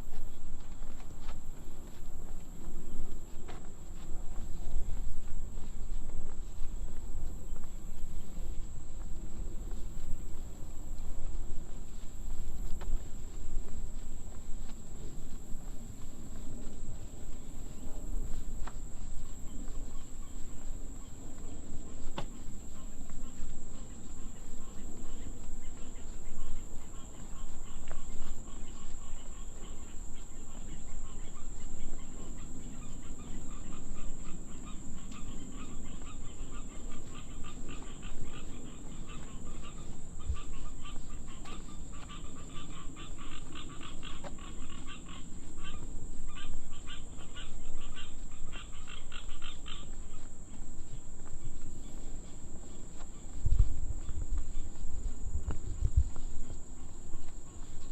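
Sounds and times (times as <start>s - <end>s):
insects droning: 0.0s - 57.9s
frogs trilling: 2.8s - 57.9s.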